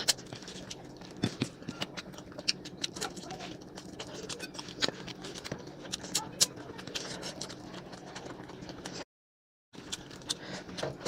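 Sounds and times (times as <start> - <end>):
person chewing food: 0.0 - 9.0, 9.8 - 11.0.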